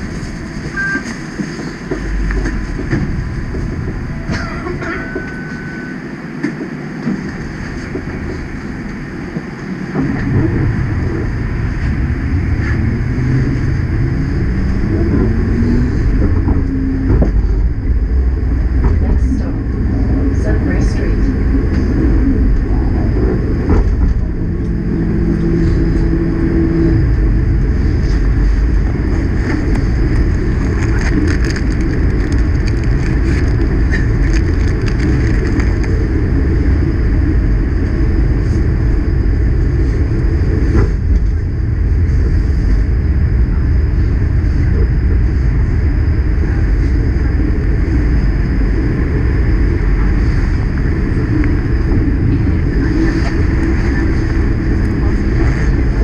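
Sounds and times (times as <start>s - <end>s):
streetcar wheels and motors rumbling: 0.0s - 56.0s.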